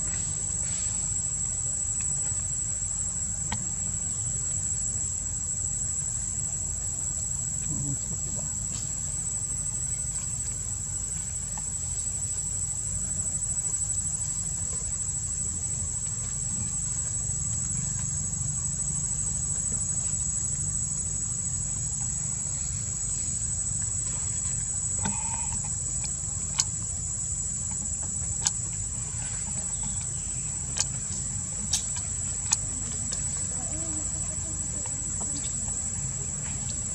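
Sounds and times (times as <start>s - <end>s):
insect chorus drone: 0.0s - 36.9s.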